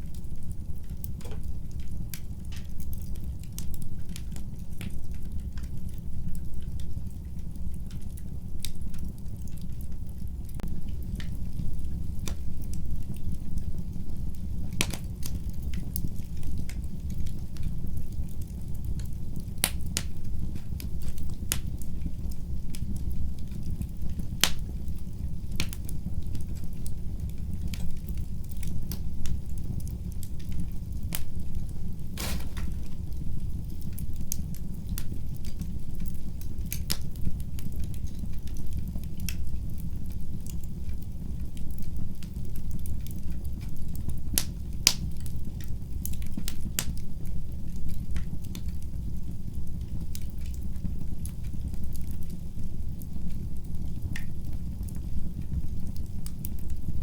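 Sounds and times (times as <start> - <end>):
fire low rumble: 0.0 - 57.0
wood fire snapping and popping: 0.0 - 57.0.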